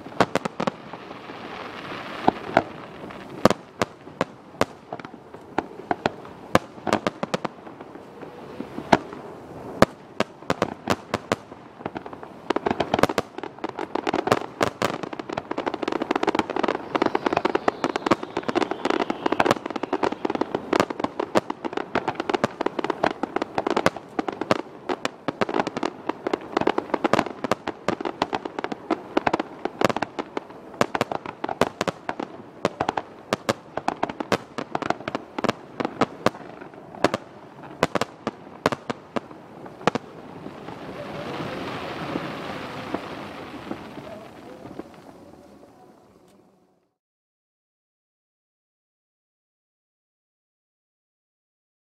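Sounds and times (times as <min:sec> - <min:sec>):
fireworks bursting: 0:00.0 - 0:46.6.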